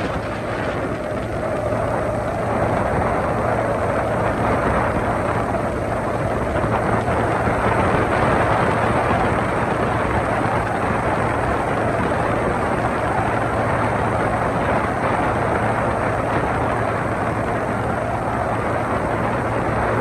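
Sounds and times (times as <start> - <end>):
motorboat engine droning: 0.0 - 20.0
rush of wind and water: 0.0 - 20.0.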